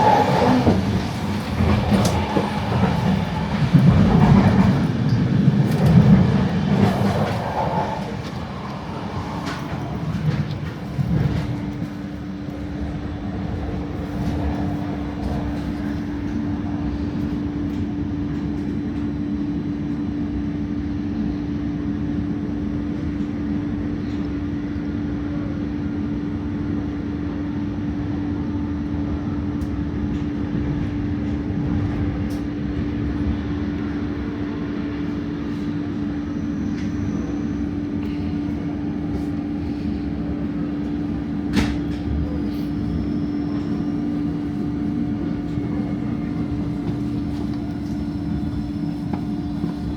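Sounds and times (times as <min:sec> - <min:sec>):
train wheels rumbling on track: 0:00.0 - 0:49.9.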